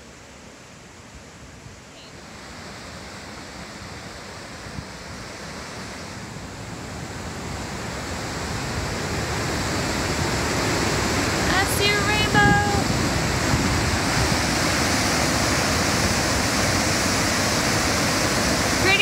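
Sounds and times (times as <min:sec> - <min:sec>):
river rushing through rapids: 0:00.0 - 0:19.0.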